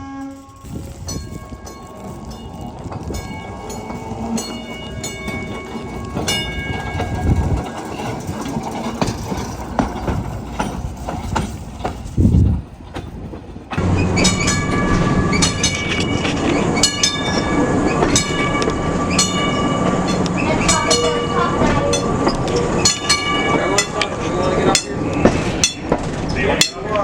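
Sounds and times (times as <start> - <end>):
train wheels clicking on rails: 0.2 - 27.0.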